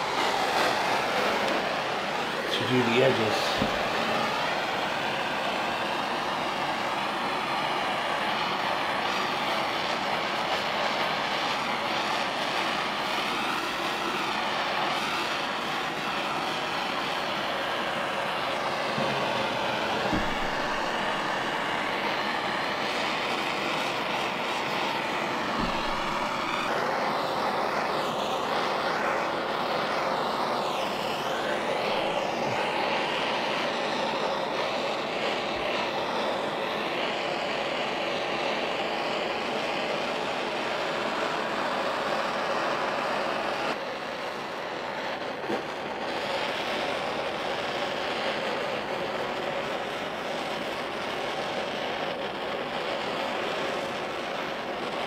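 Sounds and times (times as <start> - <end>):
gas torch hissing: 0.0 - 55.0.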